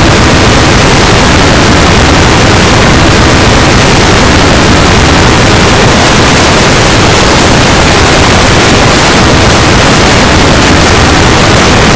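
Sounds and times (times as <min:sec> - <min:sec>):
loud distorted static noise: 0:00.0 - 0:11.9.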